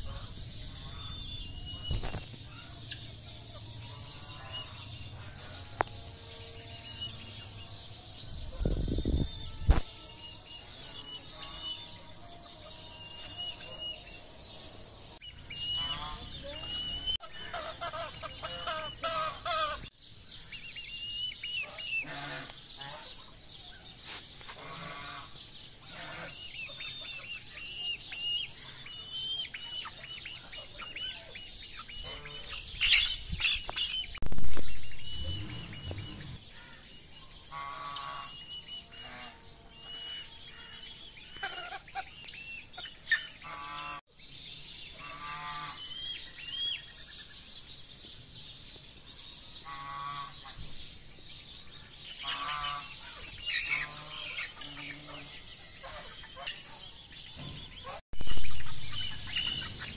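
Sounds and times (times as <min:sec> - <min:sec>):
hens calling: 0:00.0 - 0:19.9, 0:21.4 - 0:23.4, 0:24.0 - 0:44.0, 0:44.9 - 0:47.0, 0:49.6 - 0:50.8, 0:52.1 - 0:59.9
chicks peeping: 0:00.0 - 0:59.9.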